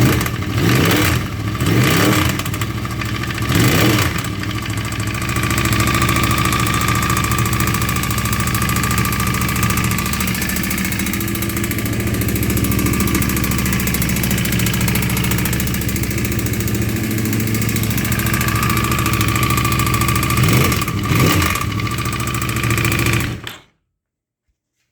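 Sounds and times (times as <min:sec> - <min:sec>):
engine revving blips: 0:00.0 - 0:02.7, 0:03.4 - 0:04.4, 0:05.5 - 0:23.6
motorcycle engine idling: 0:00.0 - 0:23.5
engine knock: 0:00.0 - 0:23.6.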